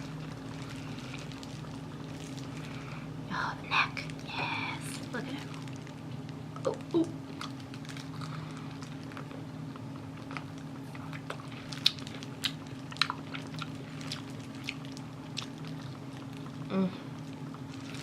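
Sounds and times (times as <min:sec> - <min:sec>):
chewing crunchy food: 0:00.0 - 0:03.0, 0:05.0 - 0:18.0
steady low hum: 0:00.0 - 0:18.0.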